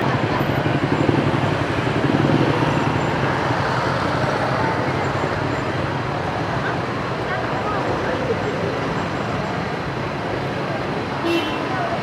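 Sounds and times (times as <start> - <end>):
motorbike and car engines passing: 0.0 - 12.0.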